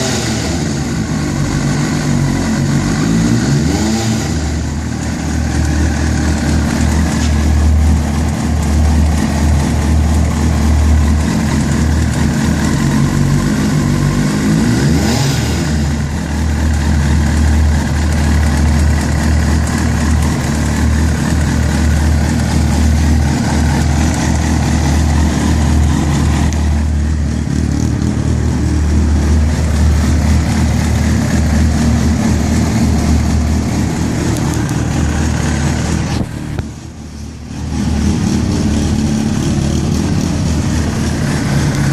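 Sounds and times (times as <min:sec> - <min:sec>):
engine rattling: 0:00.0 - 0:41.9
motorcycle engine idling and revving: 0:00.0 - 0:41.9.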